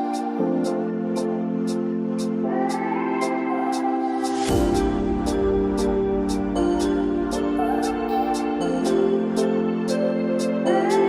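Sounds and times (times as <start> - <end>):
light high percussion tick: 0.0 - 11.0
soft instrumental music: 0.0 - 11.0.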